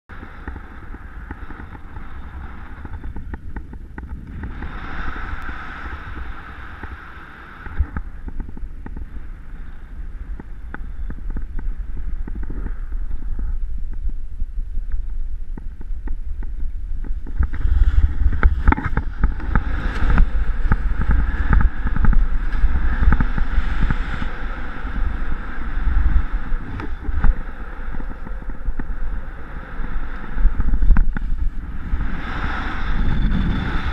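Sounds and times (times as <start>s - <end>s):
paraglider wing crackling: 0.1s - 33.9s
wind buffeting microphone: 0.1s - 33.9s.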